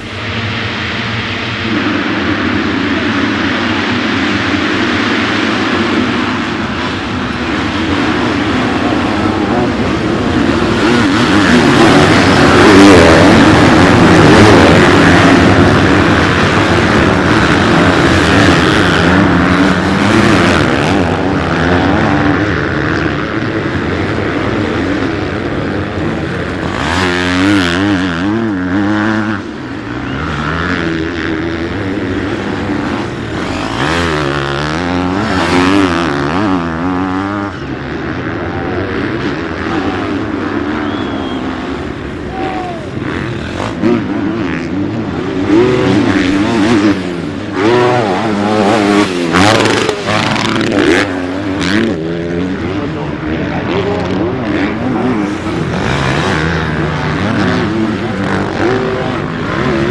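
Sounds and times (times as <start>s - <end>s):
motocross bikes racing at high revs: 0.0s - 59.9s
motorbike revving nearby: 0.0s - 59.9s.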